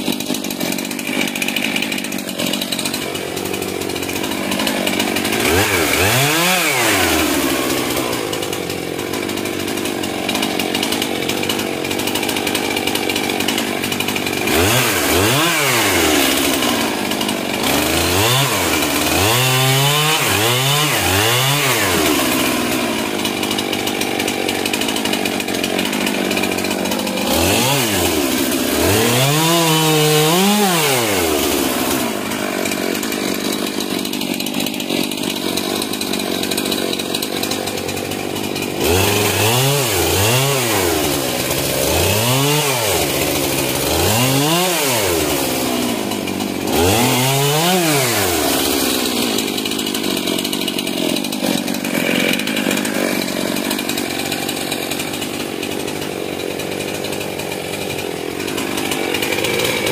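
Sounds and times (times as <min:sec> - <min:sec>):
chainsaw revving while cutting wood: 0:00.0 - 0:59.9.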